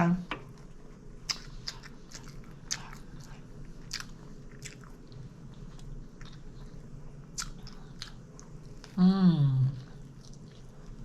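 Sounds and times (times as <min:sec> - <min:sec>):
person chewing: 0:00.5 - 0:09.0, 0:09.8 - 0:11.0.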